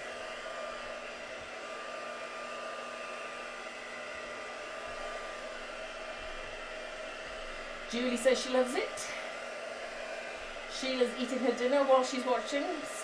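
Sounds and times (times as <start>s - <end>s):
heat tool whirring hum: 0.0s - 13.0s.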